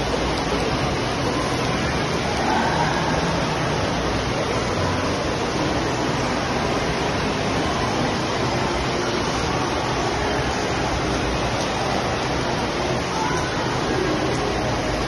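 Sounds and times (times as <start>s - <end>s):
water rushing through slides: 0.0s - 15.0s.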